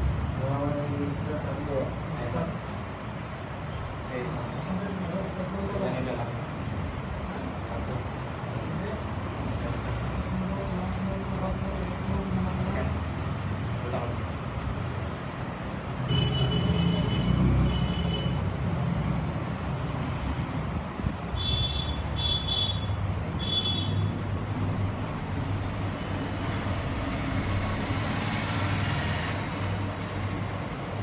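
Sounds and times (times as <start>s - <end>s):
road traffic rumbling: 0.0s - 31.0s.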